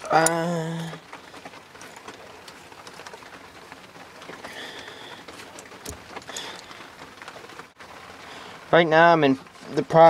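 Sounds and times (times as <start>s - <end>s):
rain pattering on a tent: 0.0s - 10.0s.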